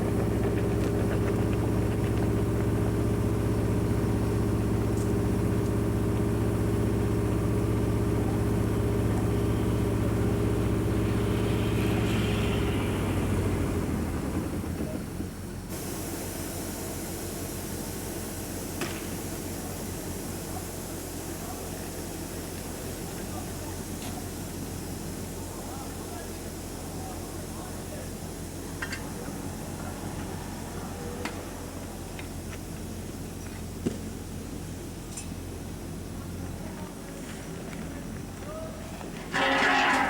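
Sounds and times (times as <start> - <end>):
engine idling: 0.0 - 36.8.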